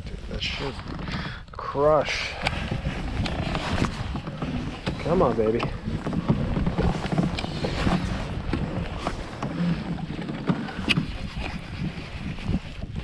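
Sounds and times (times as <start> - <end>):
water slapping against hull: 0.0 - 13.0
wind buffeting microphone: 0.0 - 13.0.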